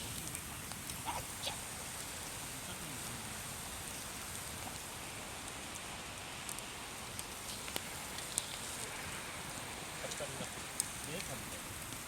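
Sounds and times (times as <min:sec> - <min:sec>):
campfire flames hissing: 0:00.0 - 0:12.0
wood crackling and popping: 0:00.0 - 0:12.0.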